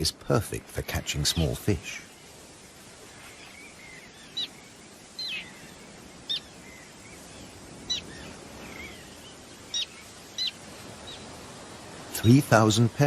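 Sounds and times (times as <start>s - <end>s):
steady background hiss: 0.0s - 13.0s
terns calling: 0.0s - 13.0s
faint bird chirps: 0.8s - 12.5s.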